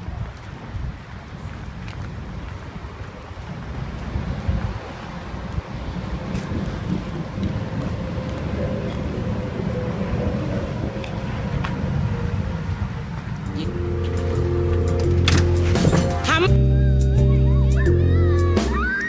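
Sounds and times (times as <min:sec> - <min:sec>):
car road and engine rumble: 0:00.0 - 0:18.6.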